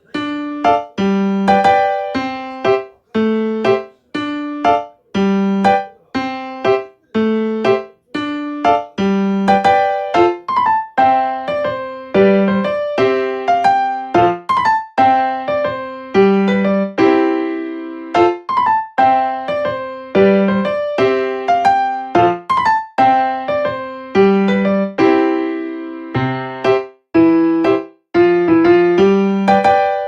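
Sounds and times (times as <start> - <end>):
gentle electric piano melody: 0.0 - 30.0.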